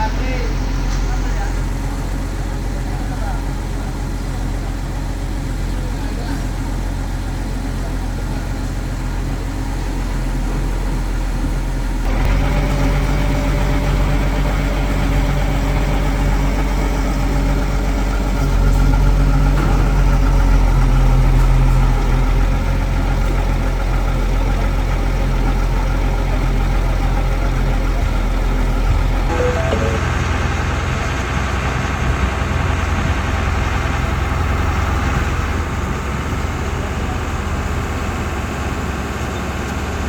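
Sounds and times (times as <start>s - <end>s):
truck engine idling: 0.0s - 39.2s.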